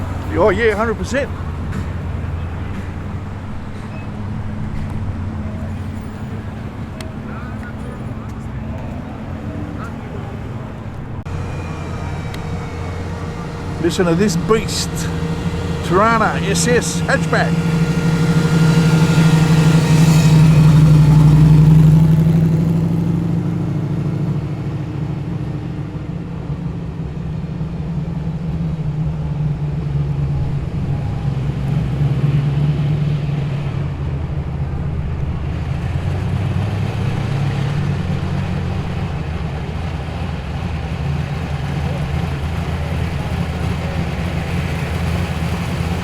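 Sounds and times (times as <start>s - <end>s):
car engine rumbling past: 0.0s - 46.0s
other car engines running: 0.0s - 46.0s.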